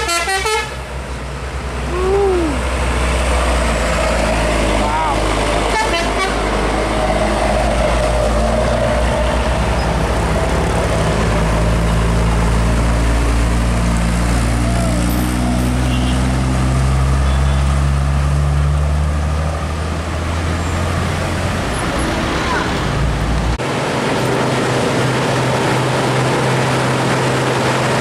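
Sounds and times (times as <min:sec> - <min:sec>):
diesel truck engines passing: 0:00.0 - 0:28.0
road noise: 0:00.0 - 0:28.0.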